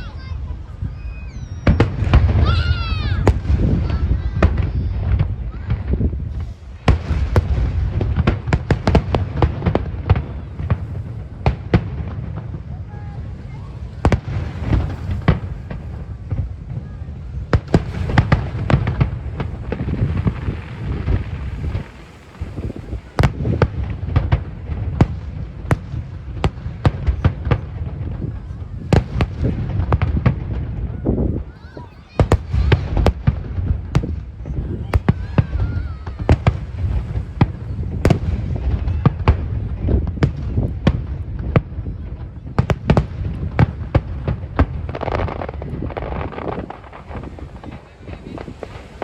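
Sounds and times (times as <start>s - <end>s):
low rumble of booms: 0.0s - 31.5s, 32.2s - 49.0s
crackling fireworks reports: 0.0s - 49.0s
fireworks bursting with sharp bangs: 0.0s - 49.0s.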